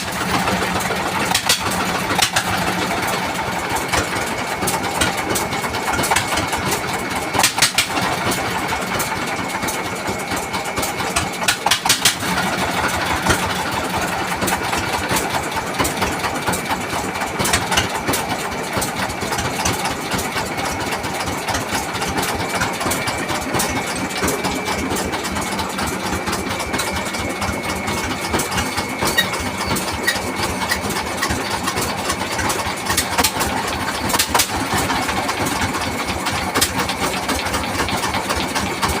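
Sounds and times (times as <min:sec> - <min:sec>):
diesel engine clattering: 0:00.0 - 0:39.0.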